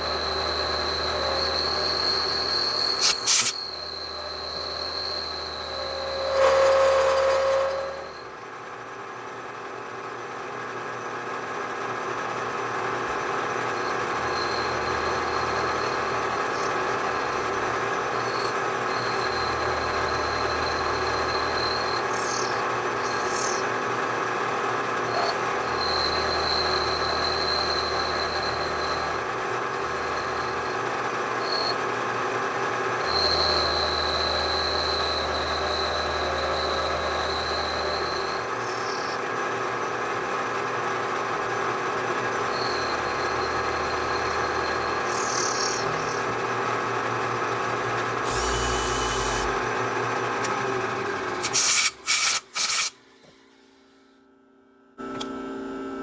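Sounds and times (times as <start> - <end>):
milling machine whine and hum: 0.0 - 53.9.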